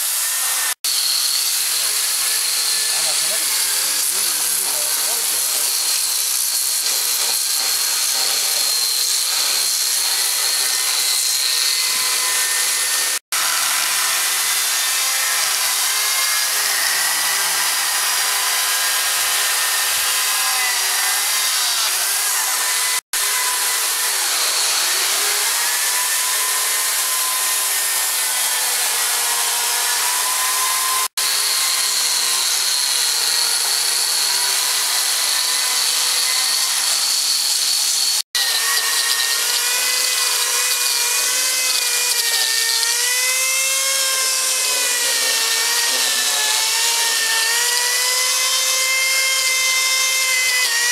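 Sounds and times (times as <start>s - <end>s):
electric carving tools grinding wood: 0.0s - 50.9s.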